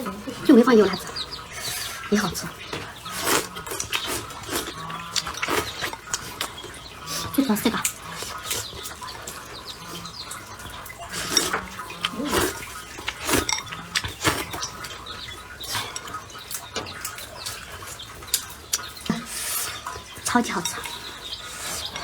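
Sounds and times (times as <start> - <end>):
slurping and chewing: 1.1 - 22.0.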